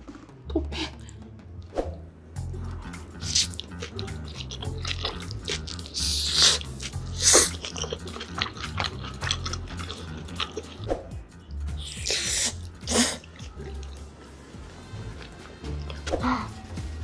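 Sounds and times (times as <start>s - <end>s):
crunchy eating sounds: 0.0s - 1.2s, 2.6s - 16.6s
quiet background music: 0.0s - 17.0s.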